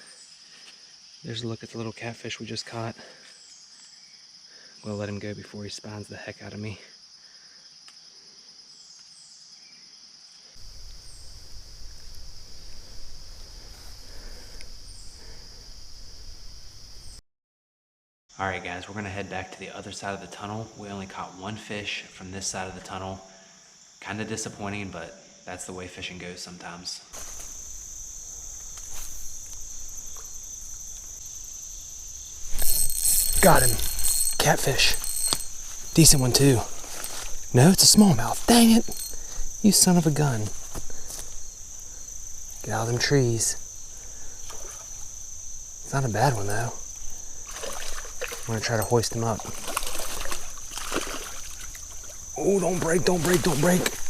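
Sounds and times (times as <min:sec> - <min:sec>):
crickets trilling: 0:00.0 - 0:17.2, 0:18.4 - 0:54.0
insects buzzing: 0:00.0 - 0:17.2, 0:27.2 - 0:54.0.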